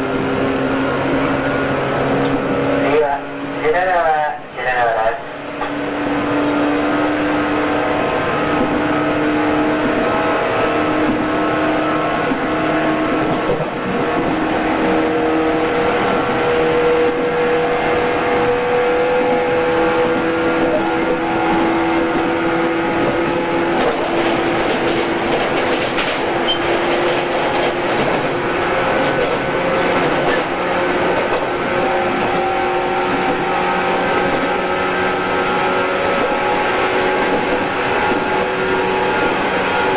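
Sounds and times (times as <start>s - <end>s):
train traction motor hum: 0.0s - 39.9s
wheels rumbling on rail: 0.0s - 39.9s.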